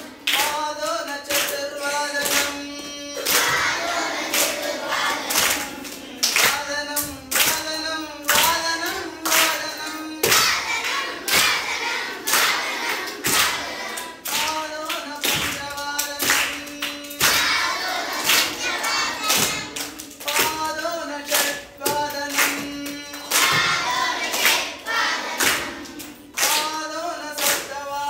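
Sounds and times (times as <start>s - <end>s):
children clapping: 0.0s - 28.0s
children singing: 0.0s - 28.0s.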